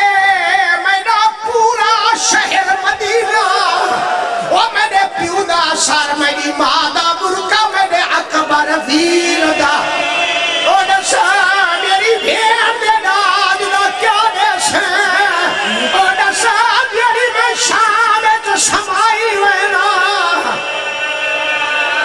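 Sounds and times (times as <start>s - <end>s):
man singing with vibrato: 0.0s - 22.0s.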